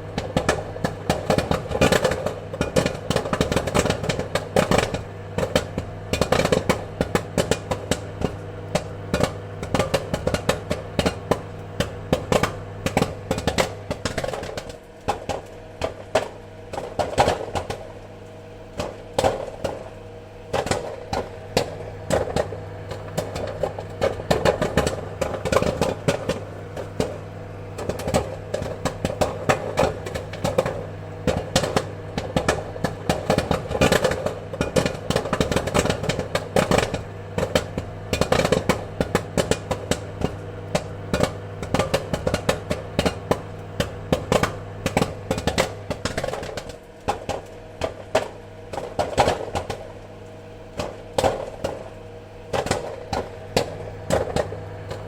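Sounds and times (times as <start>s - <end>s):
low appliance hum: 0.0s - 55.0s
popcorn kernels popping: 0.0s - 55.0s.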